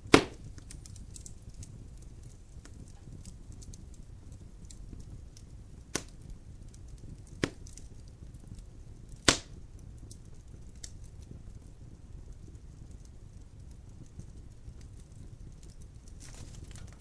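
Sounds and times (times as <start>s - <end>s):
burning logs popping: 0.0s - 17.0s
fire crackling: 0.0s - 17.0s.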